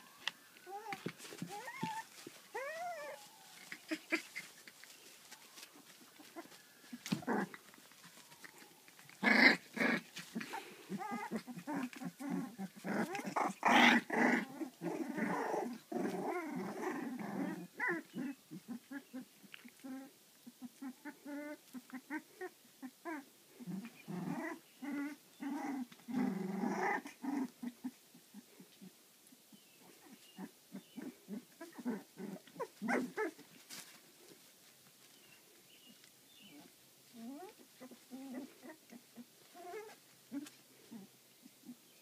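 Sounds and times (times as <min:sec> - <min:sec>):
puppies whining and growling: 0:00.0 - 0:28.9, 0:29.8 - 0:33.6, 0:36.0 - 0:41.8.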